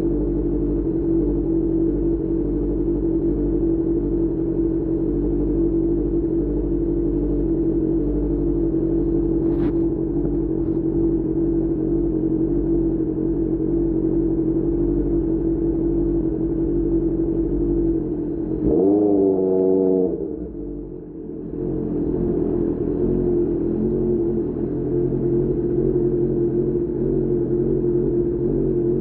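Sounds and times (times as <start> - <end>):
motorcycle engine droning: 0.0 - 29.0.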